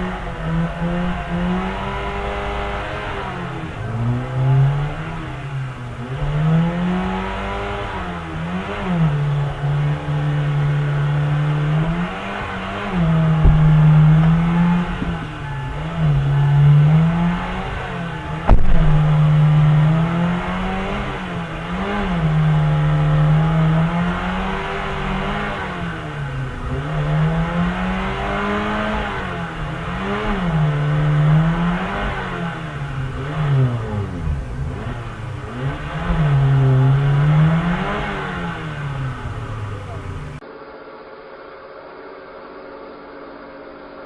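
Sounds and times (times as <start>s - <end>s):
car engine revving: 0.0s - 40.4s.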